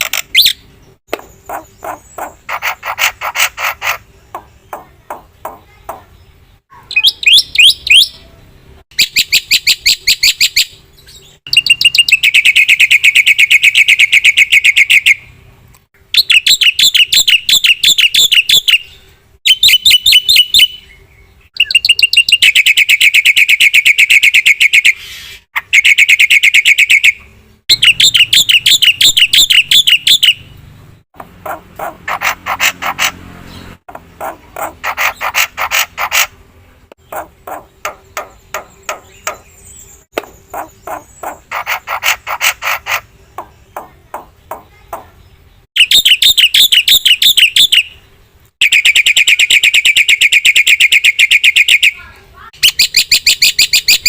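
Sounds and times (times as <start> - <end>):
myna bird singing: 0.0 - 15.4, 16.0 - 54.0.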